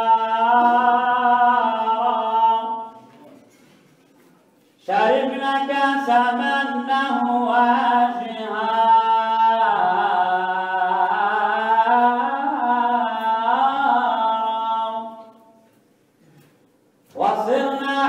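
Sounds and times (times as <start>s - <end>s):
man singing unaccompanied: 0.0s - 3.0s, 4.8s - 15.5s, 17.1s - 18.0s.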